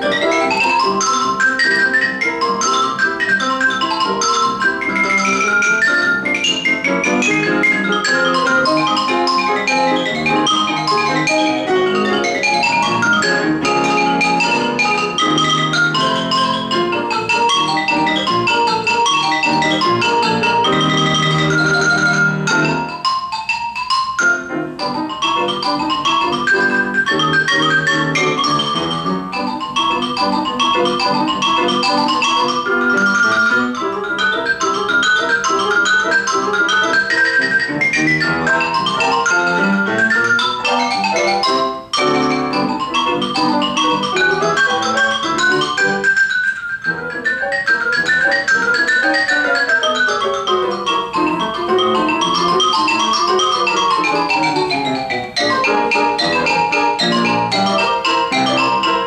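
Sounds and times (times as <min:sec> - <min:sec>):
grand piano accompaniment: 0:00.0 - 0:59.0
xylophone rapid scales: 0:00.0 - 0:59.0.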